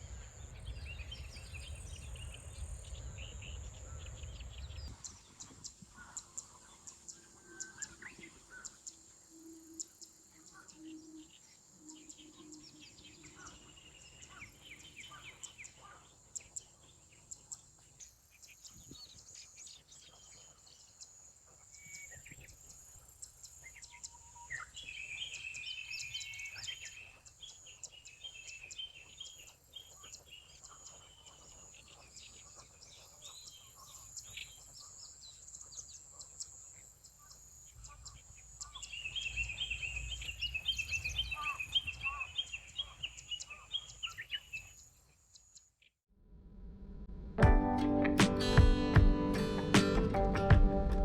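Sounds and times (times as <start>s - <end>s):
small birds chirping: 0.0s - 45.8s.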